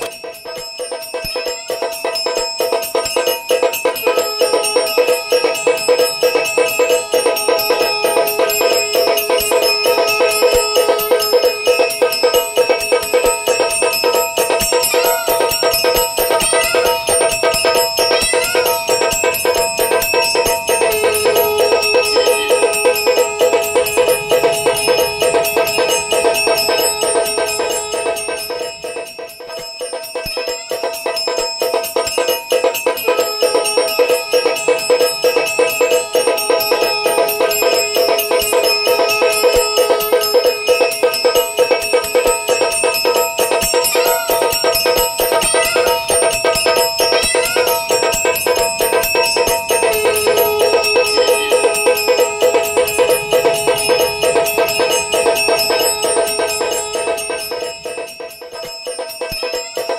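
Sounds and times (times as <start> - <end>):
brass bell struck rapidly: 0.0 - 59.9.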